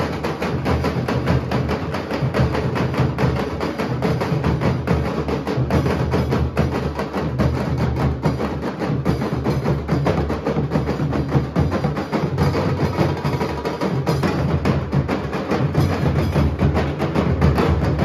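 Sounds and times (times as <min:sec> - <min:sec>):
barrel drums beaten with sticks: 0:00.0 - 0:18.0.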